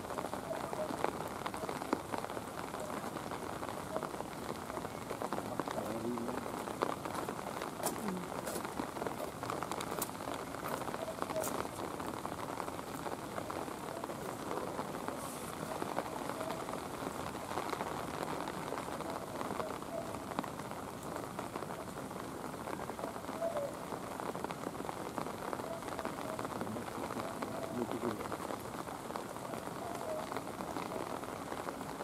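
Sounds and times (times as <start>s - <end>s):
rain on wet pavement: 0.0s - 32.0s.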